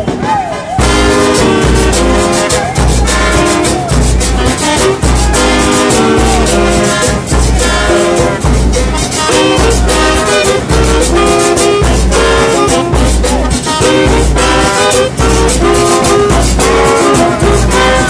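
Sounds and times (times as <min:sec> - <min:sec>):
brass section playing: 0:00.0 - 0:18.0
drums and cymbals beat: 0:00.0 - 0:18.0.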